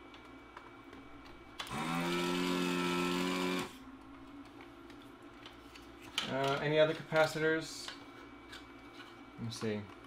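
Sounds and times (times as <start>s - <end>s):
desoldering pump motor hum: 0.0s - 10.0s.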